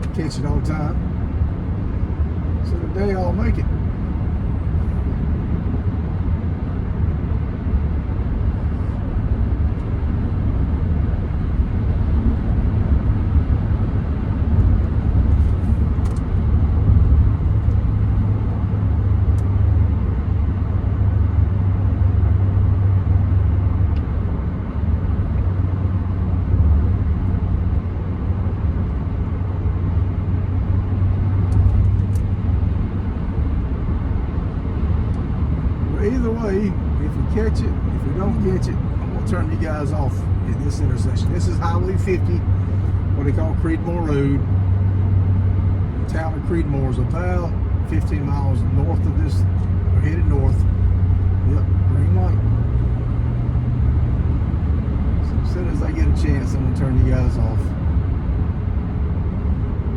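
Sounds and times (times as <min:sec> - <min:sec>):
truck engine and tyres rumbling: 0:00.0 - 0:59.9.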